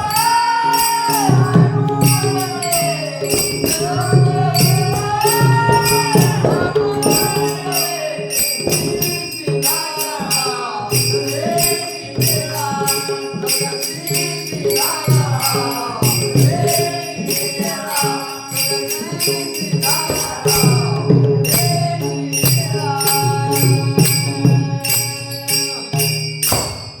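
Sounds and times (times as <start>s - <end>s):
elderly woman singing: 0.0s - 26.0s
jingling metallic percussion: 0.0s - 27.0s.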